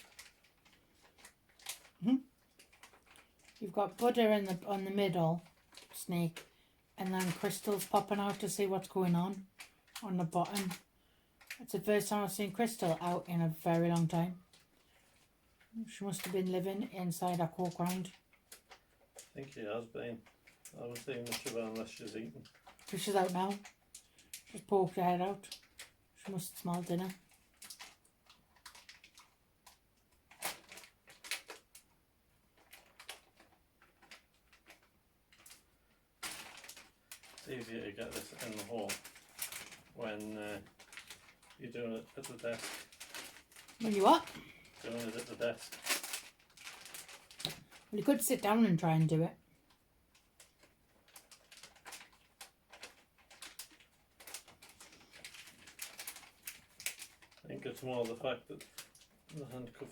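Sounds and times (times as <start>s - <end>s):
wrapper rustling: 0.0s - 59.9s.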